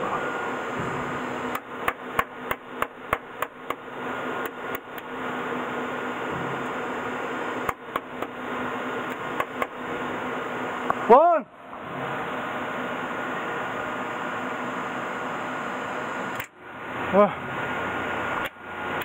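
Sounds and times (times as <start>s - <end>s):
steady machine hum: 0.0s - 19.0s.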